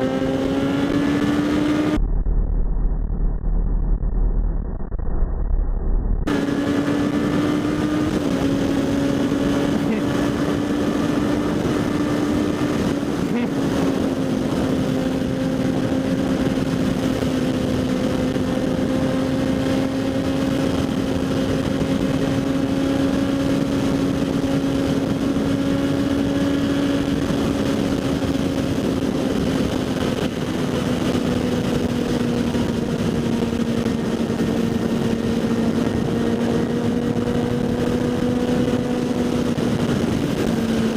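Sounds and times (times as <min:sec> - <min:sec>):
motorcycle engine cruising: 0:00.0 - 0:04.8, 0:06.2 - 0:40.9
wind rush: 0:00.0 - 0:40.9.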